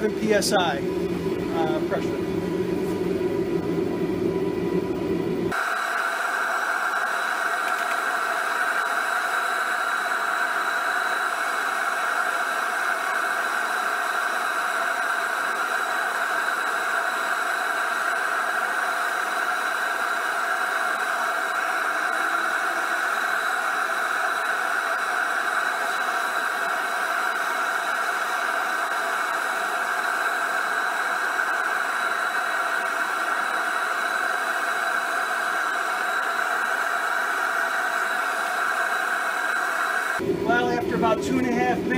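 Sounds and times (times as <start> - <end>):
gas burner hissing: 0.0 - 41.9.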